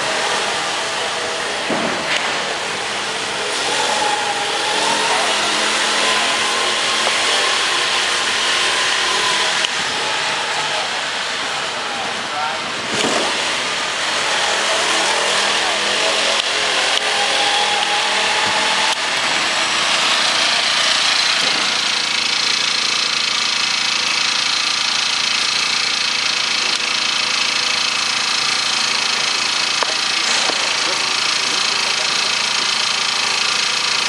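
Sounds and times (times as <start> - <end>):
small petrol engine running: 0.0 - 34.0.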